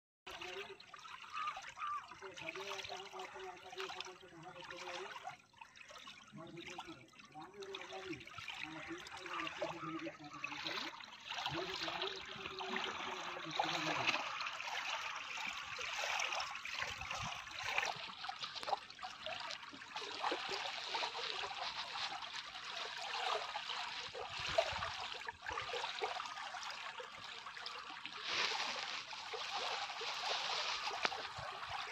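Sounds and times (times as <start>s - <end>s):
waves lapping on shore: 0.3s - 31.9s.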